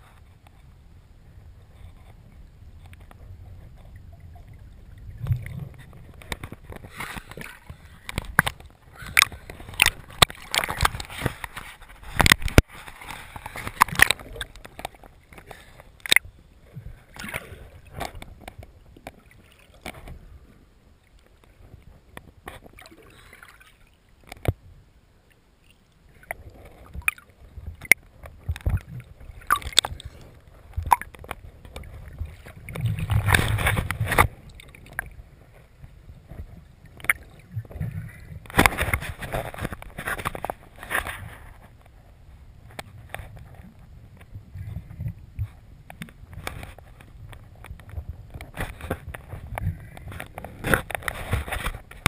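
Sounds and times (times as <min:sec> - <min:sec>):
low water churning: 0:00.0 - 0:52.0
water sloshing and gurgling: 0:00.0 - 0:52.0.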